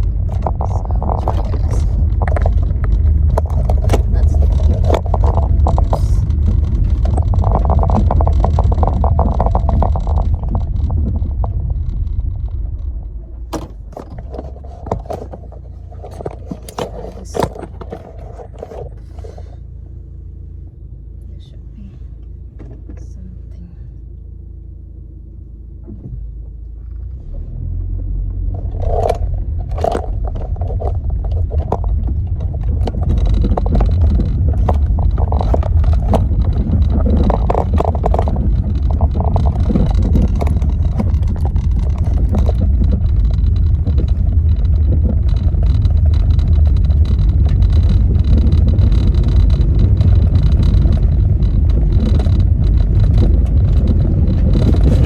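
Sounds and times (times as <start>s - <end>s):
small scrapes and ticks: 0.0s - 13.2s, 14.0s - 19.6s, 28.3s - 55.0s
car engine and tyre rumble: 0.0s - 55.0s.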